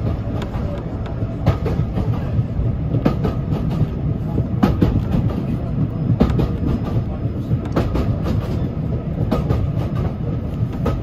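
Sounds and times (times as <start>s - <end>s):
railway carriage rumble: 0.0s - 11.0s
wheels clicking over rail joints: 0.0s - 11.0s.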